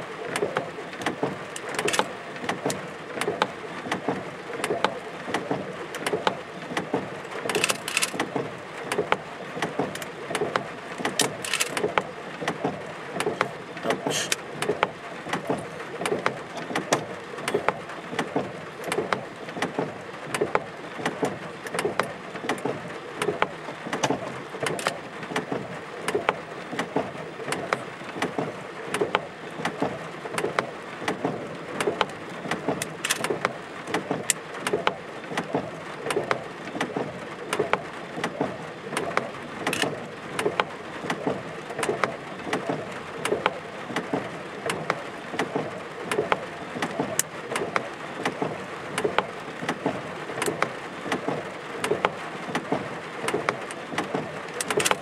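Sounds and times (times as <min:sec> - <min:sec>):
raindrops tapping hard surface: 0:00.2 - 0:55.0.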